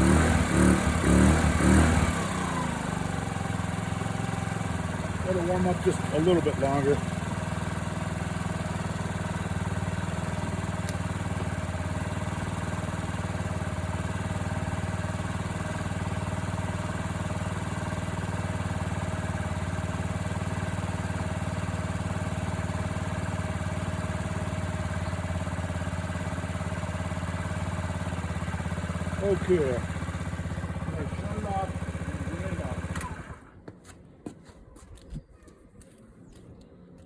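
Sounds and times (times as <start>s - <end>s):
scooter engine idling: 0.0s - 33.7s.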